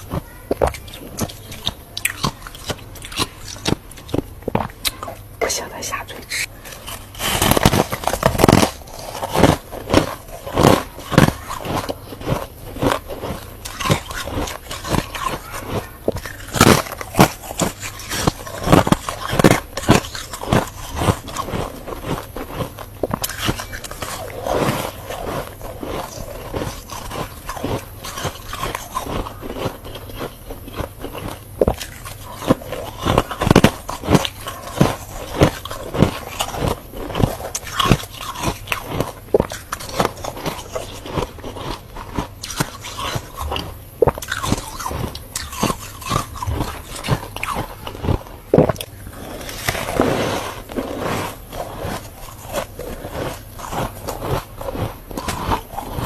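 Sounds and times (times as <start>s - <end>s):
chewing crunchy frost: 0.0s - 56.0s.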